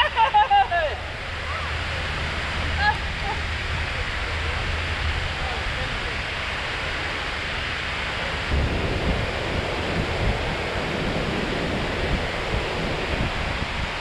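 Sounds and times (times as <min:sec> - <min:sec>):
water rushing over spillway: 0:00.0 - 0:14.0
wind buffeting microphone: 0:00.0 - 0:14.0.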